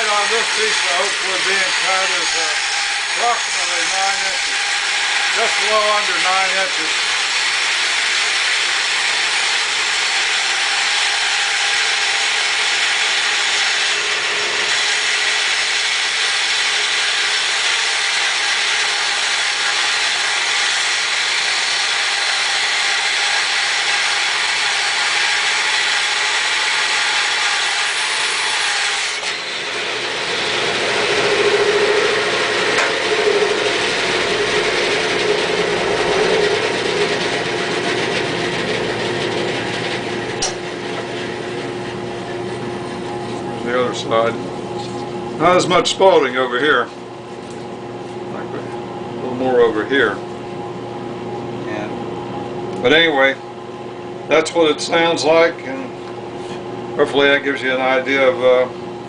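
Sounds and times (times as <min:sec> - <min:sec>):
band saw cutting wood: 0:00.0 - 0:46.9, 0:54.3 - 0:58.7.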